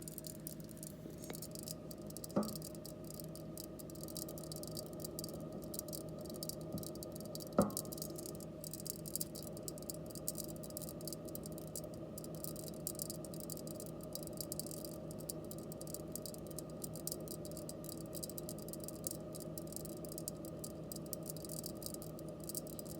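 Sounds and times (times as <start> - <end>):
refrigerator hum: 0.0 - 22.9
soaking rice crackling: 0.0 - 22.9.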